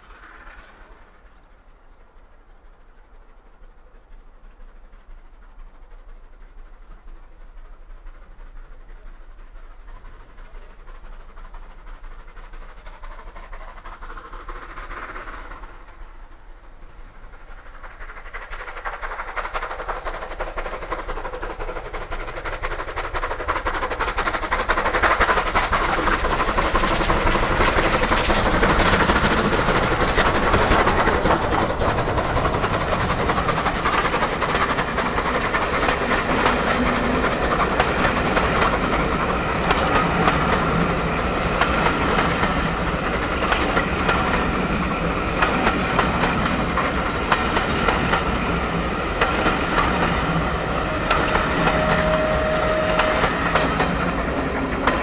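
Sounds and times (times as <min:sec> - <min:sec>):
steam locomotive working uphill: 0:00.0 - 0:55.0
wheels clattering on rails: 0:00.0 - 0:55.0.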